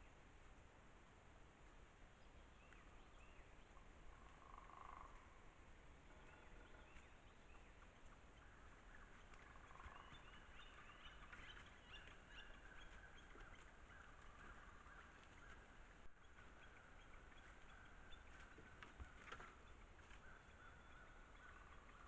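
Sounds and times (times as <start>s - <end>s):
distant bird chirps: 2.4s - 22.0s.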